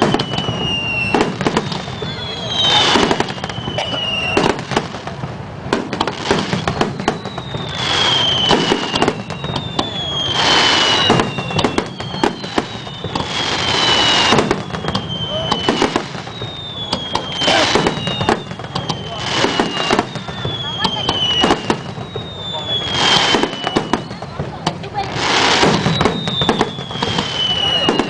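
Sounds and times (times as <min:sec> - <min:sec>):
fireworks whistles sliding down: 0:00.0 - 0:05.2, 0:06.0 - 0:28.0
fireworks crackling and popping: 0:00.0 - 0:28.0.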